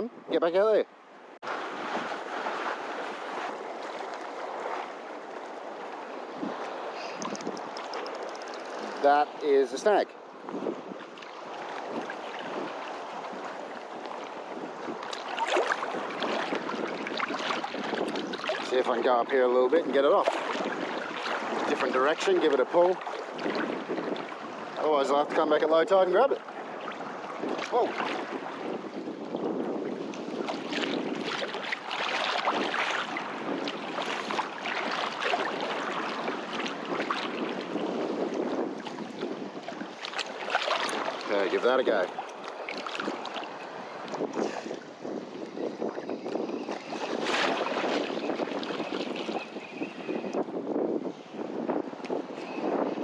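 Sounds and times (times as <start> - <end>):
wind on microphone: 0.0 - 53.0
water sloshing and splashing: 1.4 - 50.5.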